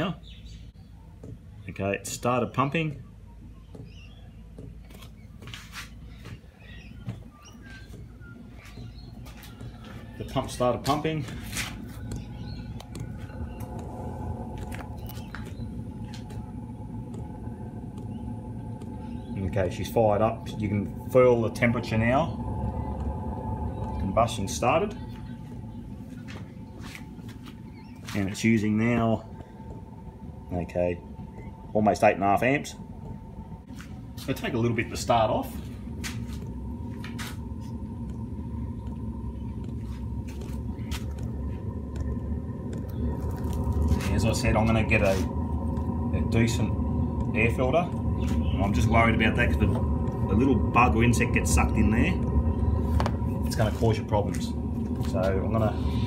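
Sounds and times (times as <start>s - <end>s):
blower fan humming: 0.0s - 56.0s
heater burner low drone: 0.0s - 56.0s
high-pitched whine: 0.0s - 56.0s.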